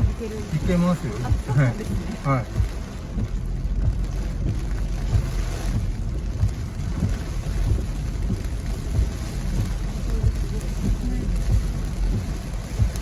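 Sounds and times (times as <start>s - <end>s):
low rumble: 0.0s - 13.0s
rain hissing: 0.0s - 13.0s
wind on moving car: 0.0s - 13.0s.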